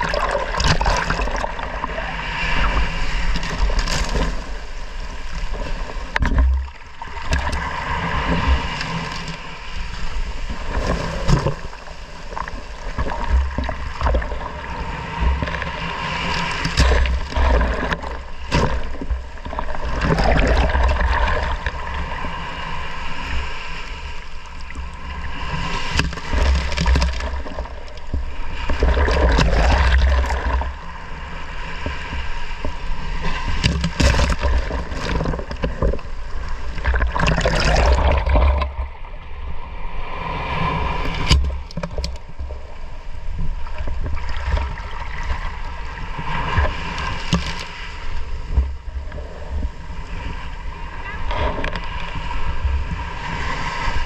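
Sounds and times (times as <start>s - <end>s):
waves splashing on microphone: 0.0s - 54.0s.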